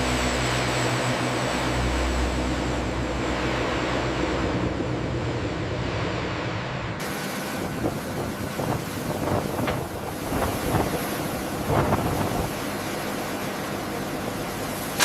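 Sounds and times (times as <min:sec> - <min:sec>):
aircraft engines roaring: 0:00.0 - 0:15.0
low hum: 0:00.0 - 0:15.0.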